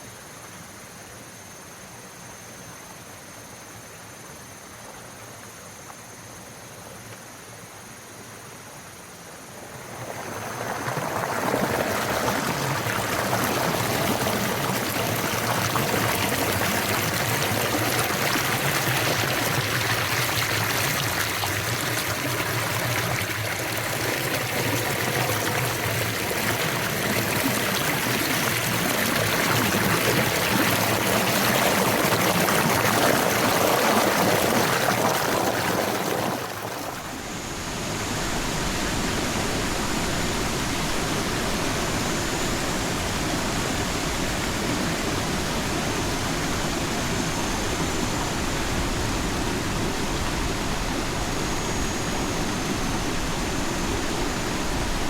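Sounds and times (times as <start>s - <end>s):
rushing stream water: 8.1s - 55.0s.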